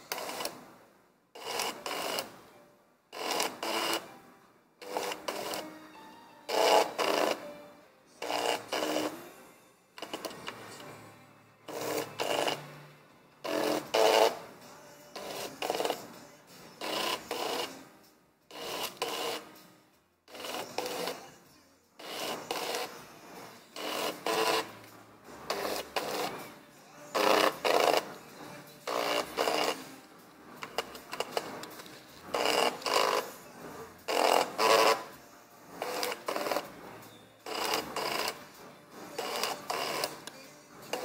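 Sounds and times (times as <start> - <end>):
plotter motors whirring: 0.0 - 2.5, 3.1 - 4.2, 4.8 - 19.6, 20.3 - 21.4, 22.0 - 41.0.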